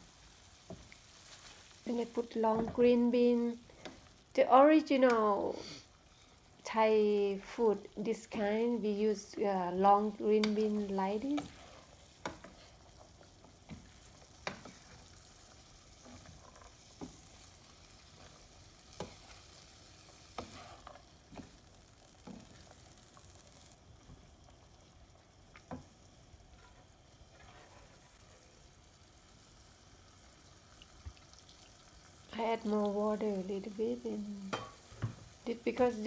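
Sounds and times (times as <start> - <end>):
food frying in a pan: 0.0 - 36.0.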